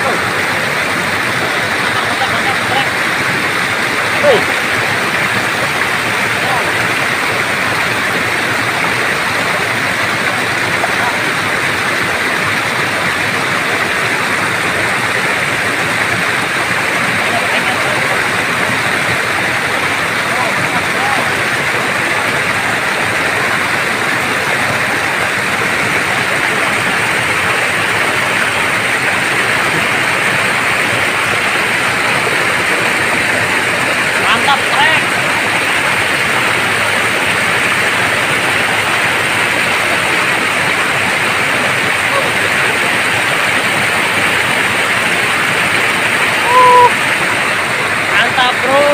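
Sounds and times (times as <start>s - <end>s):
stream rushing over stones: 0.0s - 48.9s.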